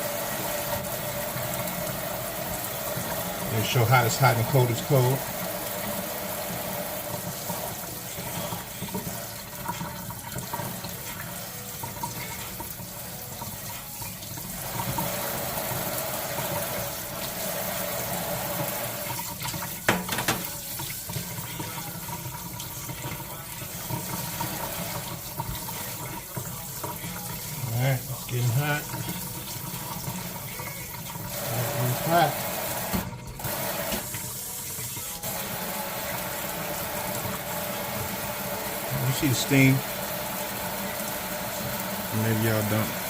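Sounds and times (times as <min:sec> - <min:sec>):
faucet water running into sink: 0:00.0 - 0:43.0.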